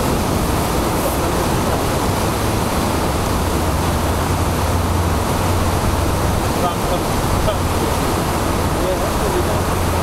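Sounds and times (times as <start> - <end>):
river water rushing over weir: 0.0 - 10.0.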